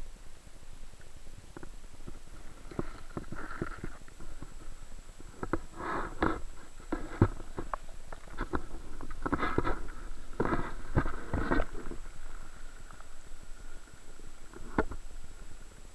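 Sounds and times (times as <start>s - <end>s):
underwater gurgling: 2.1s - 15.9s.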